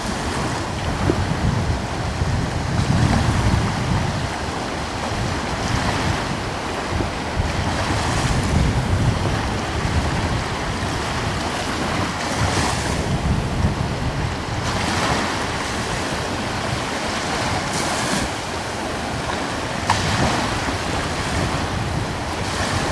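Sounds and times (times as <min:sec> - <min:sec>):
sea waves washing onto shore: 0:00.0 - 0:22.9
wind buffeting microphone: 0:00.0 - 0:22.9.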